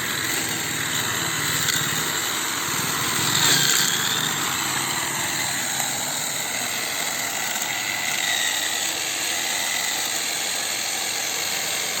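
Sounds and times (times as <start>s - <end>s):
electric drill running with whine: 0.0s - 12.0s.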